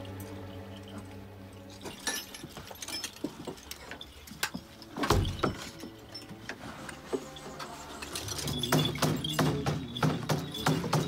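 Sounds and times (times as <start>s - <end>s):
metal bells jangling: 0.0s - 11.0s.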